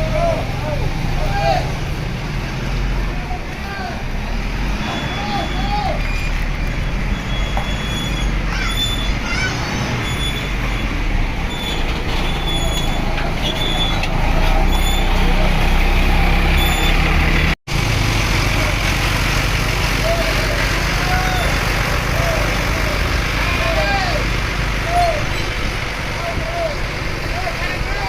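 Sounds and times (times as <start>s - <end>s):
bus engine running: 0.0s - 28.0s
road and traffic noise: 0.0s - 28.0s.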